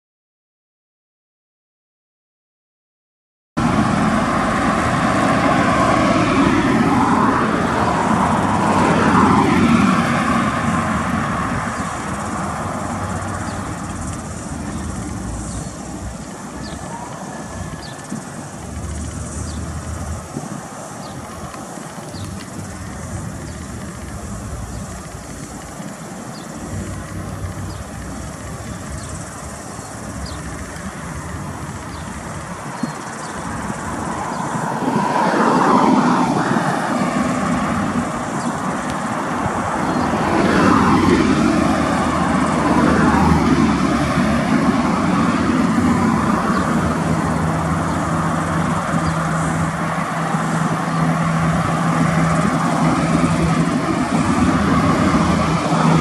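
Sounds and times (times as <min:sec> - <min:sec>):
diesel locomotive engine: 0:03.6 - 0:56.0
road traffic passing: 0:03.6 - 0:56.0.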